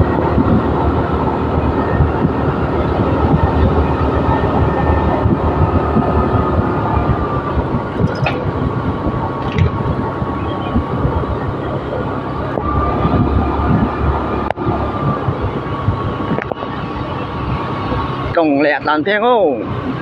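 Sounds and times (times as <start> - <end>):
motorbike engine rumble: 0.0 - 20.0
wind rush on microphone: 0.0 - 20.0.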